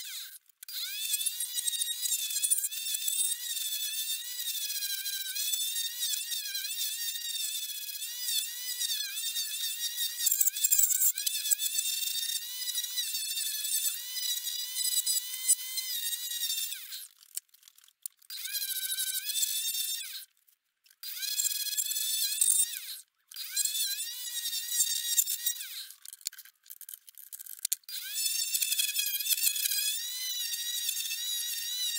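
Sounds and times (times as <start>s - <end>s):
high-pitched motor whine: 0.0s - 17.1s, 18.3s - 20.3s, 21.0s - 26.0s, 27.9s - 31.9s.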